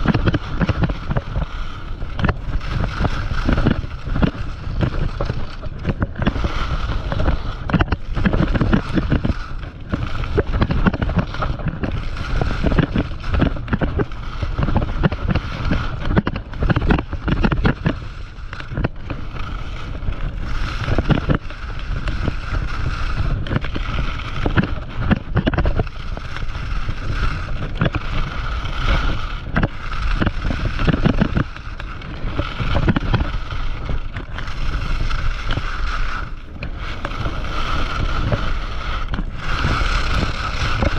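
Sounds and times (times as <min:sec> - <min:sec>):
skis scraping on snow: 0:00.0 - 0:40.9
wind buffeting microphone: 0:00.0 - 0:40.9.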